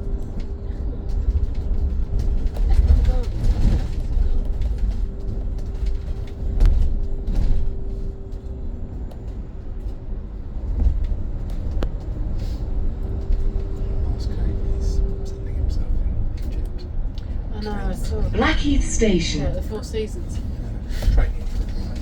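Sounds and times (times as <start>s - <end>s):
bus road rumble: 0.0s - 22.0s.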